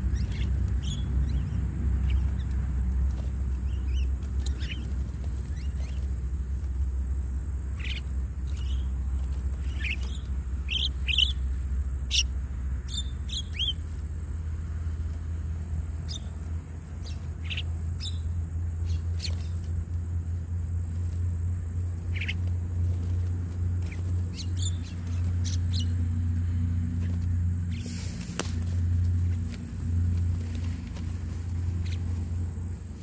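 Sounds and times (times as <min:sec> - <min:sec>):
birds chirping and squawking: 0:00.0 - 0:14.1, 0:16.0 - 0:20.0, 0:20.9 - 0:33.0
steady low hum: 0:00.0 - 0:33.0.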